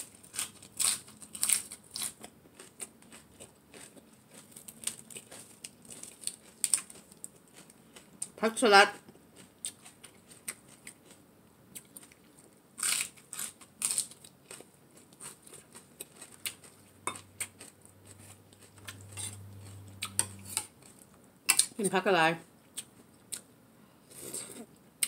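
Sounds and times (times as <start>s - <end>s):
crunchy chewing of salad: 0.0s - 21.8s, 22.6s - 24.8s.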